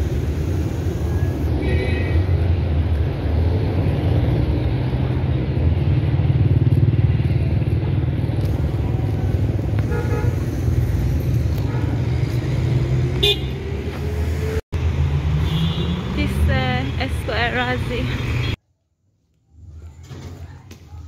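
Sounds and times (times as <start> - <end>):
cars driving past: 0.0 - 18.6.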